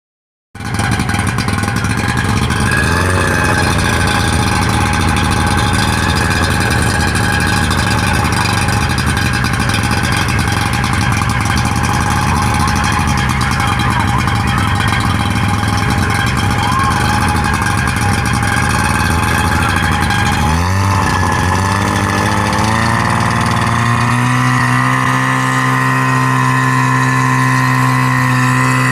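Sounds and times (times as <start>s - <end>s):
fire pump engine running: 0.6s - 28.9s.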